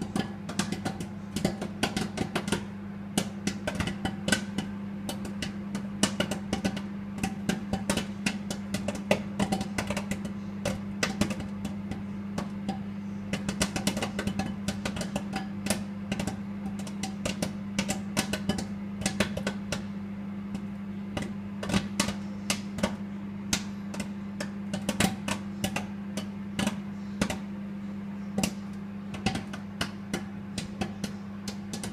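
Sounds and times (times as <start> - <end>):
microwave oven humming: 0.0 - 31.9
popcorn popping: 0.0 - 31.9.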